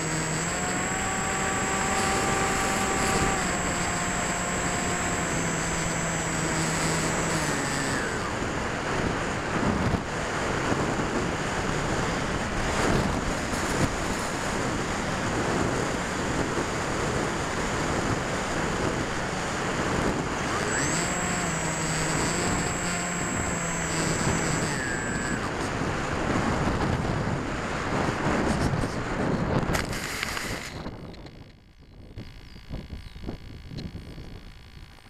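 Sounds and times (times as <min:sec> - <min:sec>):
model plane motor whining: 0:00.0 - 0:28.1, 0:29.7 - 0:35.0
wind rushing over microphone: 0:00.0 - 0:35.0.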